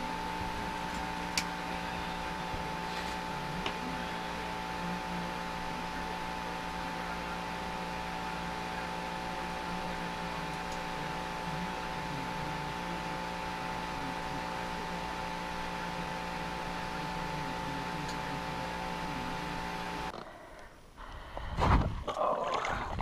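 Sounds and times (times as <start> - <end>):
steady machine hum: 0.0 - 22.1.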